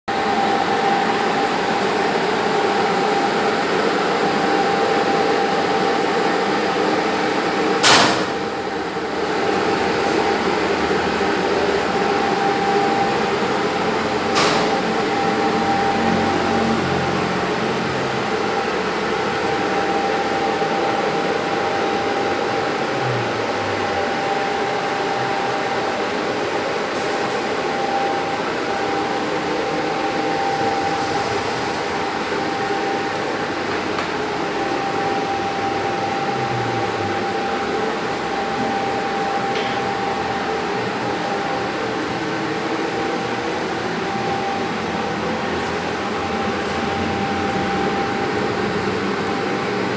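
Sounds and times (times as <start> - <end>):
mechanical whir with high whine: 0.1 - 49.9.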